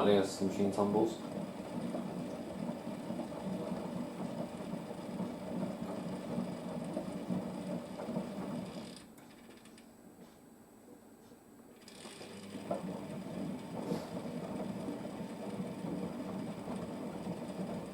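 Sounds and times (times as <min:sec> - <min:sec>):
washing machine drum tumbling: 0:00.0 - 0:09.1, 0:11.9 - 0:17.9.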